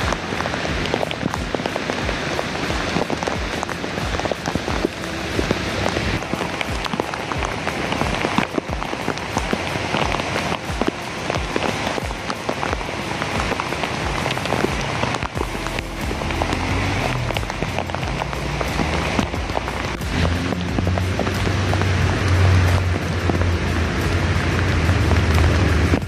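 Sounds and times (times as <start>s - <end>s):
heavy rain falling: 0.0s - 26.0s
raindrops ticking: 0.0s - 26.0s.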